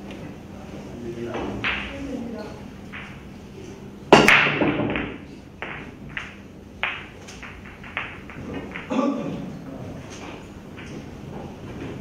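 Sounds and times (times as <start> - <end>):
billiard balls clacking: 1.3 - 12.0.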